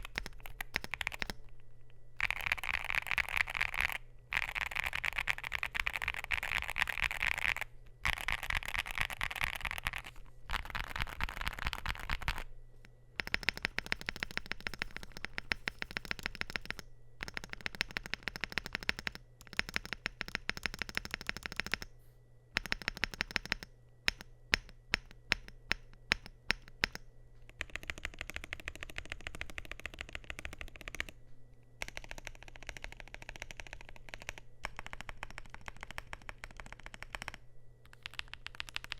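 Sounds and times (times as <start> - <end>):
mechanical keyboard typing: 0.0 - 1.6, 2.2 - 12.5, 13.2 - 21.9, 22.6 - 31.2, 31.8 - 38.9.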